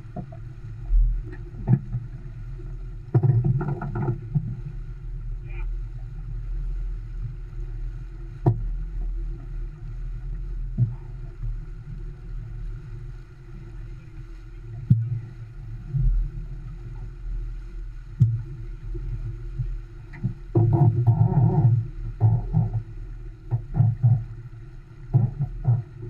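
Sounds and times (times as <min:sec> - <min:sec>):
wind and water rushing past hull: 0:00.0 - 0:26.0.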